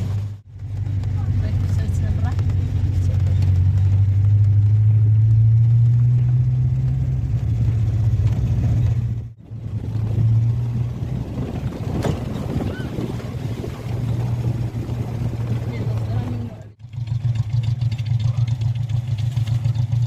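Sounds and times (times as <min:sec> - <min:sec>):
low motor drone: 0:00.0 - 0:20.0.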